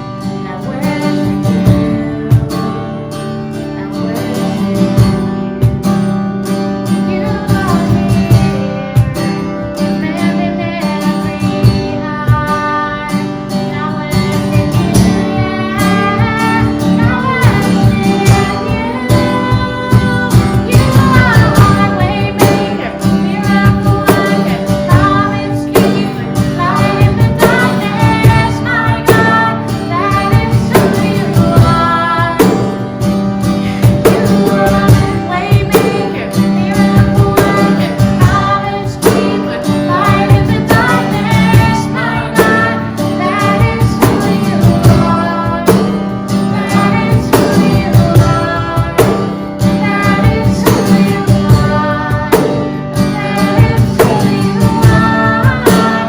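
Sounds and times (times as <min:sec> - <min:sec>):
person singing: 0:00.0 - 0:06.0, 0:06.8 - 0:56.0
live worship band playing: 0:00.0 - 0:56.0.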